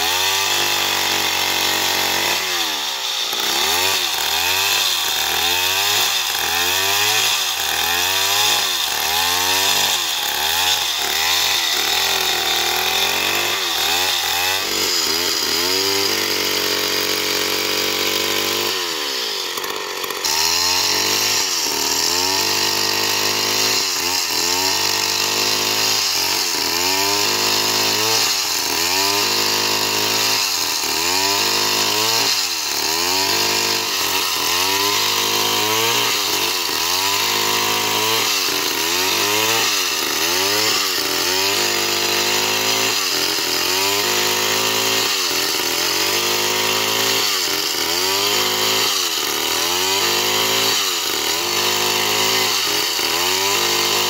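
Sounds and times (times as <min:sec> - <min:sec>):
chainsaw cutting a log: 0:00.0 - 0:54.0.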